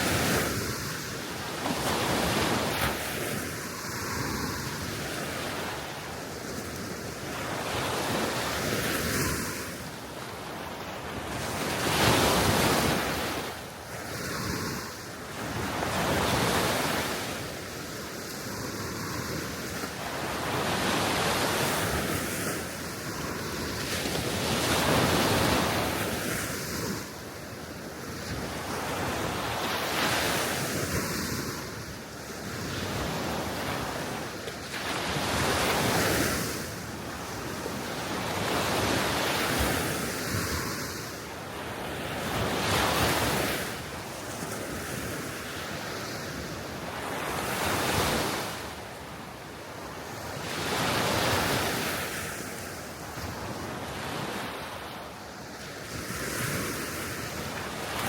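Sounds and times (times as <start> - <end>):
small waves washing onto shore: 0.0 - 58.0.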